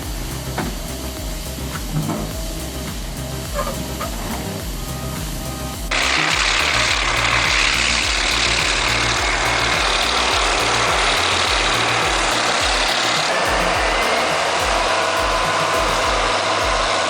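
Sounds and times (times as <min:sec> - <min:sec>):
background music with bass line: 0:00.0 - 0:17.0
diesel engine running: 0:00.0 - 0:17.0.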